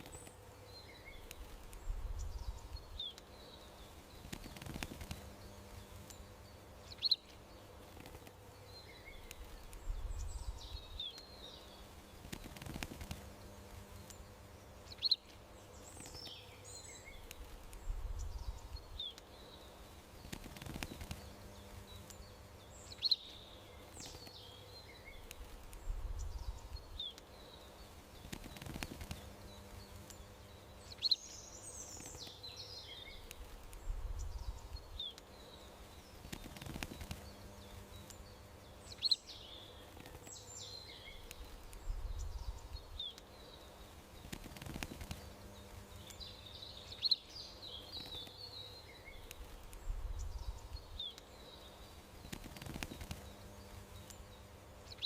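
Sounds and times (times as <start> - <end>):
faint steady hum: 0.0 - 55.0
songbirds chirping and trilling: 0.0 - 55.0.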